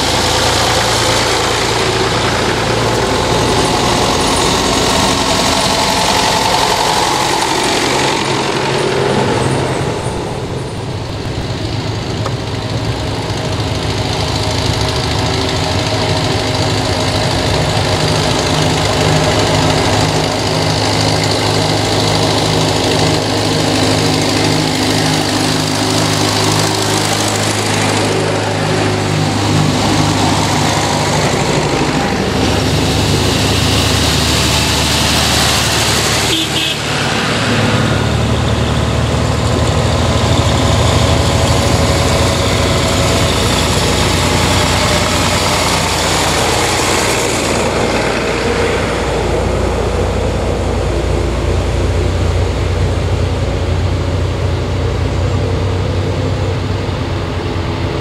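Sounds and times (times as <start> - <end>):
tractor engines driving past: 0.0 - 58.0.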